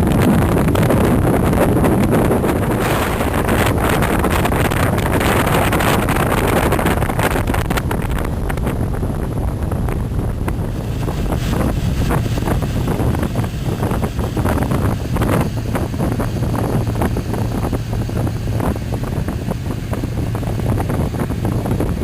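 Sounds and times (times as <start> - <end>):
boat engine drone: 0.0 - 22.0
wind buffeting microphone: 0.0 - 22.0.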